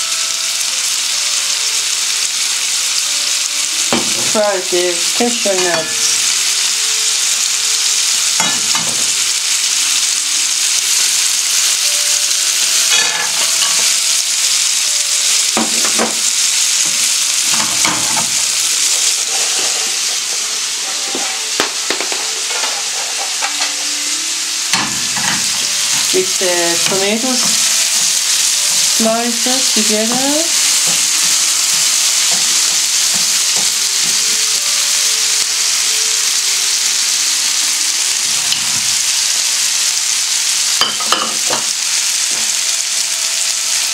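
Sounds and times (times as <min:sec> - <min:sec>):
food sizzling in oil: 0:00.0 - 0:43.9.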